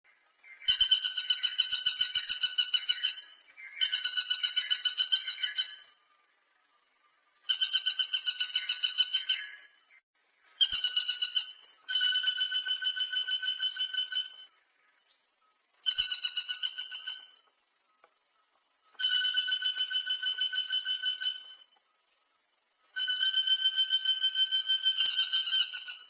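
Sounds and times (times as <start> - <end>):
woodpecker rattling calls: 0.4 - 6.0, 7.4 - 10.0, 10.6 - 15.2, 15.8 - 21.9, 22.8 - 26.0.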